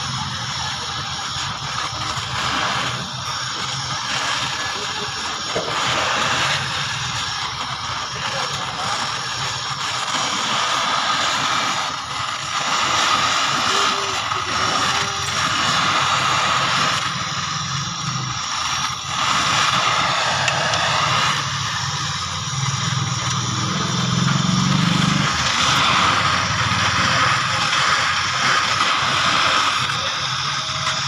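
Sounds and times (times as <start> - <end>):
welding torch flame hissing: 0.0 - 31.0.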